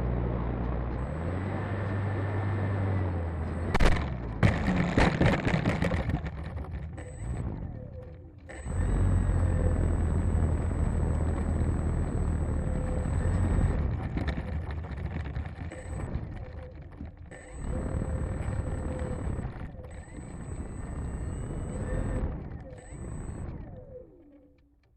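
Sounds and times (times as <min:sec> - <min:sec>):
electric motor and propeller whine: 0:00.0 - 0:24.5.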